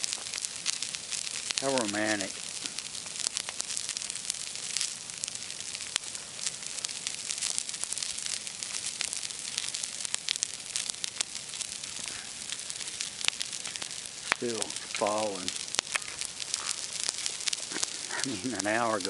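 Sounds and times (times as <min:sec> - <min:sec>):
bonfire crackling and hissing: 0:00.0 - 0:19.0.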